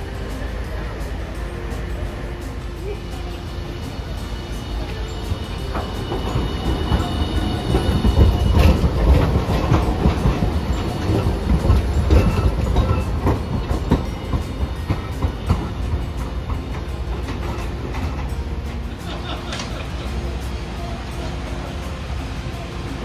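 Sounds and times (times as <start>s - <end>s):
tram rumbling: 0.0s - 23.0s
tram wheels clicking on rails: 0.0s - 23.0s.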